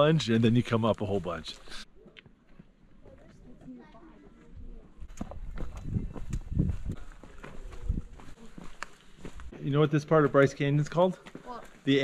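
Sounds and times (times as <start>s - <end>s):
footsteps on sandy dirt trail: 0.0s - 12.0s.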